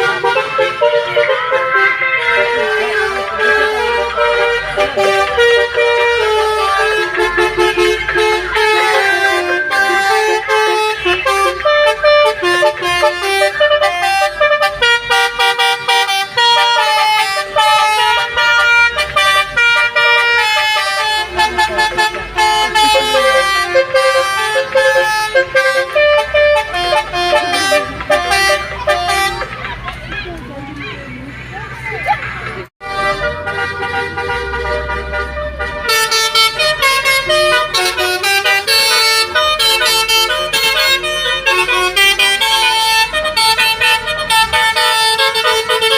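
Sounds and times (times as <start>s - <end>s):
multi-tone air horns playing melody: 0.0s - 29.7s, 32.8s - 45.9s.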